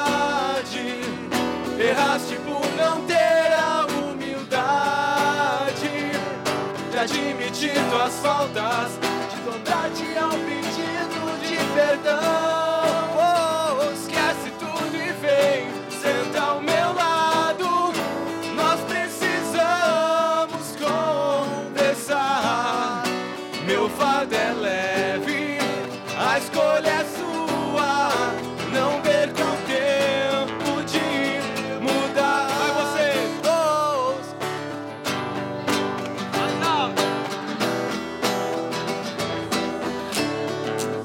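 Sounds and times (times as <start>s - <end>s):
man singing: 0.0s - 34.5s, 36.3s - 37.2s
acoustic guitars strummed: 0.0s - 41.0s.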